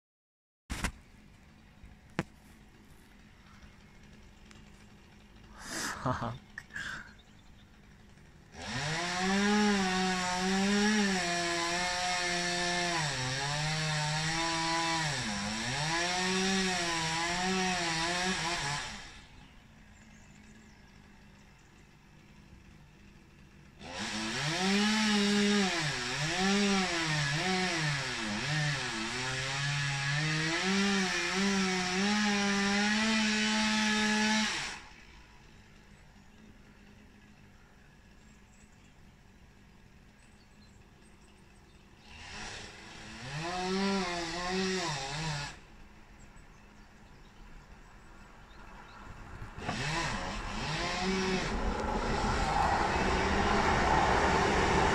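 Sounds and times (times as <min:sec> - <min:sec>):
chainsaw cutting wood: 0:00.7 - 0:38.7, 0:39.6 - 0:54.9.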